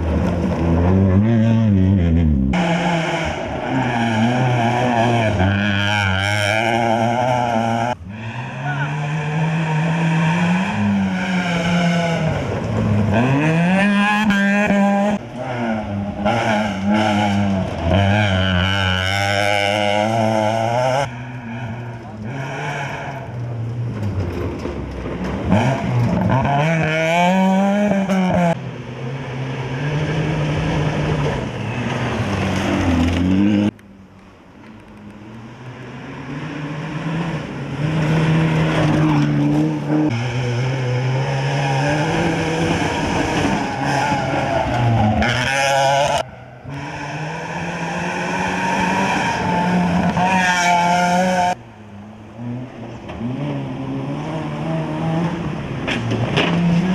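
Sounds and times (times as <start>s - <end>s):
rally car engine revving: 0.0s - 33.8s, 34.7s - 56.9s.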